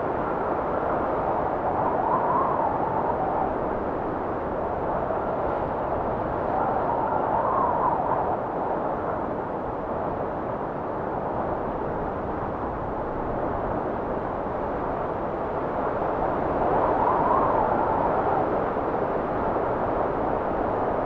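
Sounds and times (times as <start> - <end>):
blizzard wind blowing: 0.0 - 21.0.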